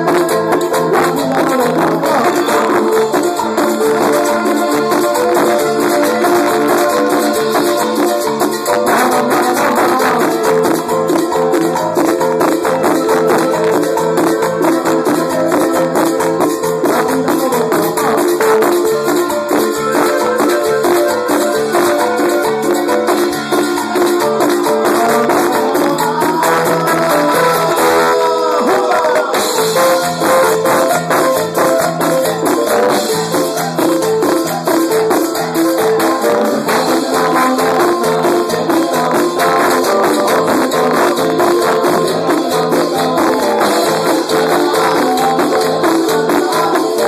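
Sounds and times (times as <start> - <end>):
accordion: 0.0 - 47.0
fast shaken percussion: 0.0 - 47.0
live band playing latin dance music: 0.0 - 47.0.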